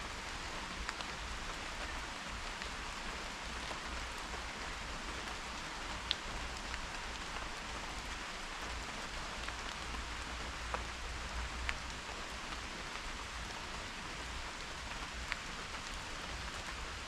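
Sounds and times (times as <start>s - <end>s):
raindrops ticking close by: 0.0s - 17.0s
steady rain falling: 0.0s - 17.0s.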